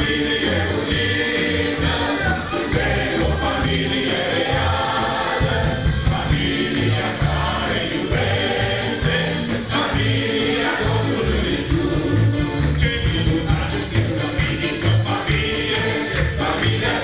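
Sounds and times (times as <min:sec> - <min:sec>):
amplified instrumental music: 0:00.0 - 0:17.0
congregation singing: 0:00.0 - 0:17.0.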